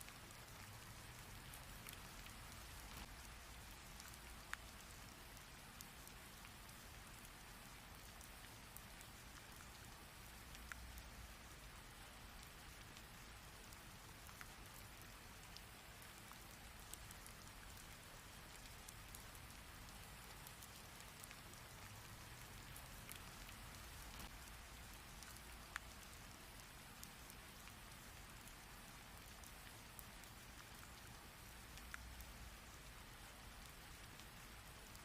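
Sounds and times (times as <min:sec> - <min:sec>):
faint steady rain: 0:00.0 - 0:35.0
raindrops ticking close by: 0:00.0 - 0:35.0.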